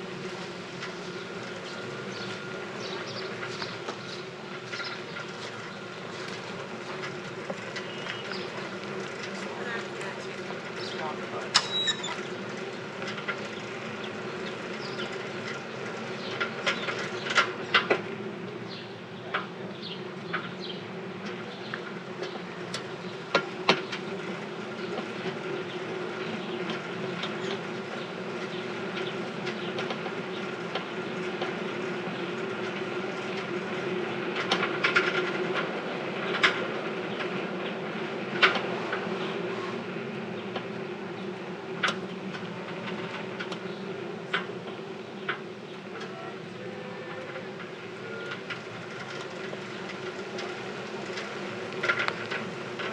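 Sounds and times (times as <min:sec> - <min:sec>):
bicycle drivetrain and tyres droning: 0:00.0 - 0:52.9.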